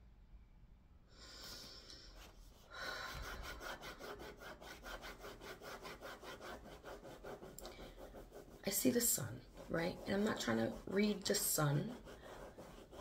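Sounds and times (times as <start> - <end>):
fast rubbing strokes: 2.1 - 13.0.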